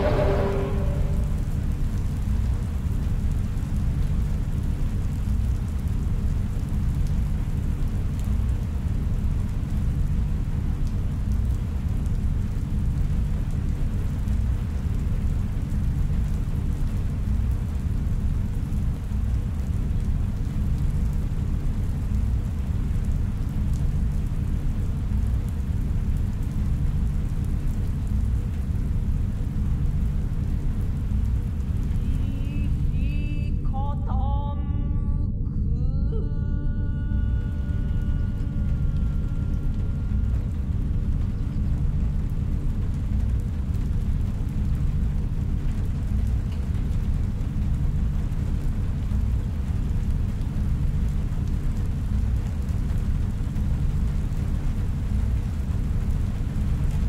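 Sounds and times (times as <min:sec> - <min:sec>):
faint rain-like hiss: 0:00.0 - 0:34.3, 0:35.6 - 0:57.0
deep low rumble: 0:00.0 - 0:57.0.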